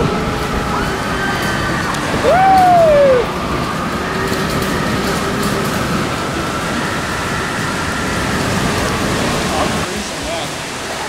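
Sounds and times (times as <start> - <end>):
hurricane wind and rain: 0.0 - 11.0.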